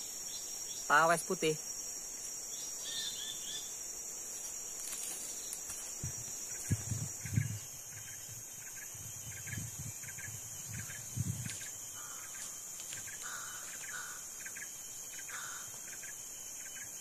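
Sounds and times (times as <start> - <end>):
insects droning high-pitched: 0.0 - 17.0.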